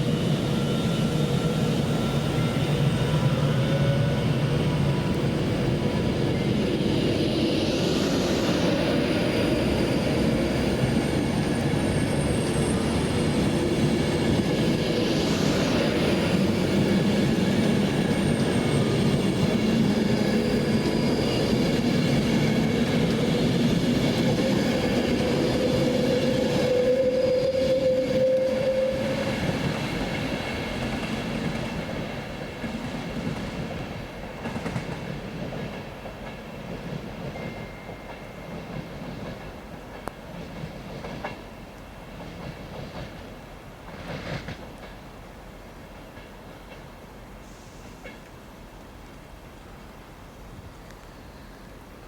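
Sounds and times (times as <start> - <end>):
train passing on rails: 0.0 - 52.0.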